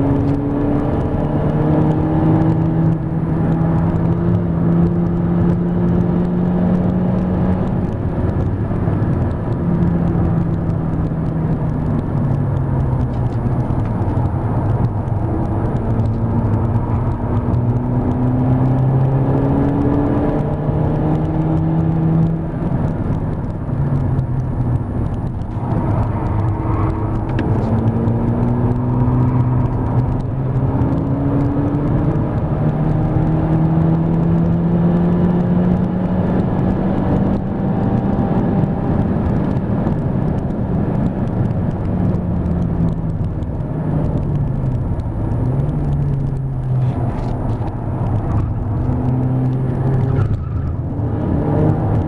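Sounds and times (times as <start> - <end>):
car engine accelerating: 0.0 - 52.0
tyre and road noise: 0.0 - 52.0.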